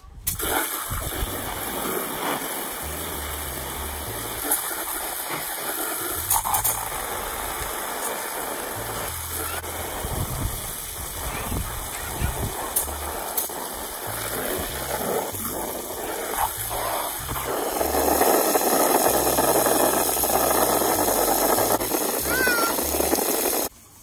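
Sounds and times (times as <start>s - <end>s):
hose water splashing into pool: 0.2s - 23.7s.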